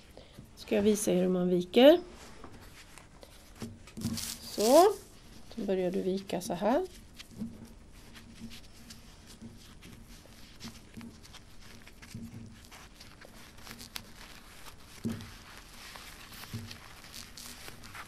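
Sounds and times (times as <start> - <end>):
paper napkin rustling: 0.6 - 18.0.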